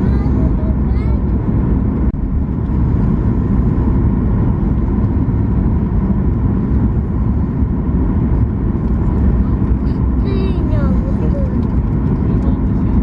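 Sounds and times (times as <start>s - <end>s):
rushing air: 0.0s - 12.1s
airliner engines rumbling: 0.0s - 13.0s.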